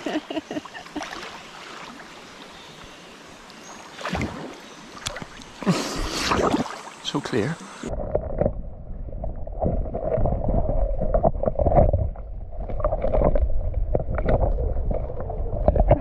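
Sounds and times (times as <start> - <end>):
underwater creek churning: 0.0 - 16.0.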